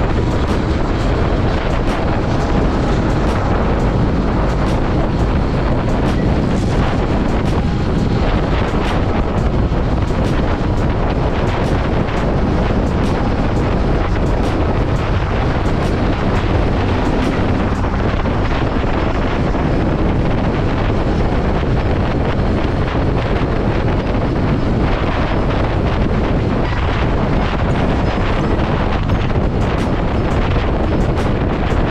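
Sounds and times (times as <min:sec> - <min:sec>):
motorcycle and road noise: 0:00.0 - 0:31.9
wind buffeting microphone: 0:00.0 - 0:31.9.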